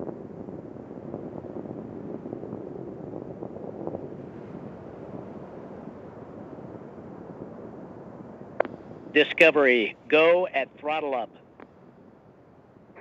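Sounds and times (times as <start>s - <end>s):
distant rocket roar: 0.0s - 13.0s.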